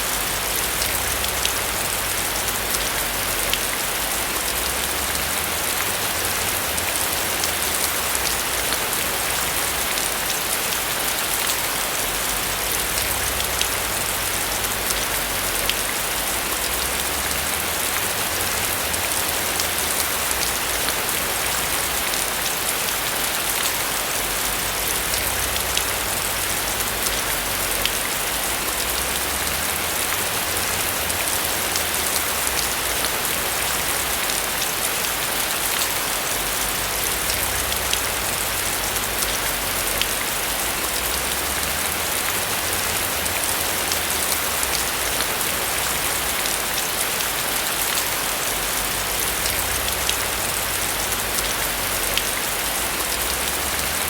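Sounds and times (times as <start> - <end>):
rain pattering on a roof: 0.0 - 54.0.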